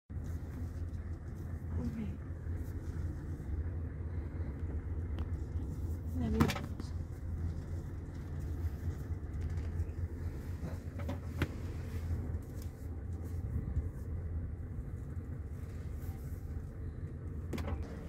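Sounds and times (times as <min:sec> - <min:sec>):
diesel engine idling: 0:00.1 - 0:18.0.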